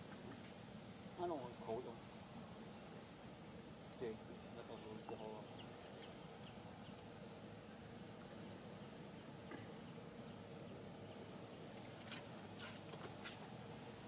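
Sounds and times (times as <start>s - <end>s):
high-pitched insect hum: 0.0s - 14.0s
insect chirping pulses: 0.0s - 14.0s.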